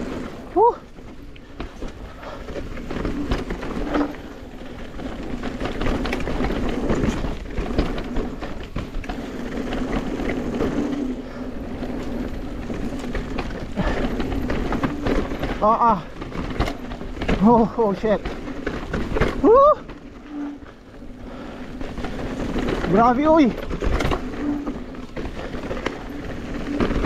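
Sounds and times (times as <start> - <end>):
bike rattling over bumps: 0.0 - 27.0
bike tyres on dirt trail: 0.0 - 27.0.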